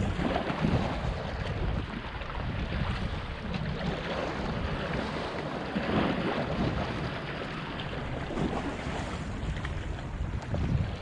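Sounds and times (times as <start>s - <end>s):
small waves against seawall: 0.0s - 11.0s
wind buffeting microphone: 0.0s - 11.0s.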